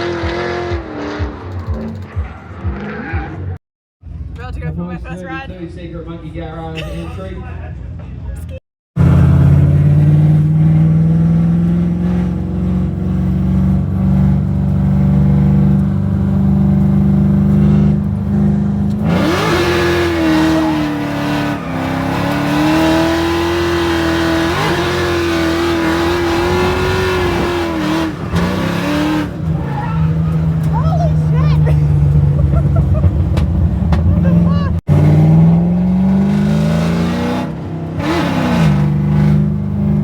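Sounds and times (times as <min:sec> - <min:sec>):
car engine revving: 0:00.0 - 0:06.2, 0:08.5 - 0:40.0.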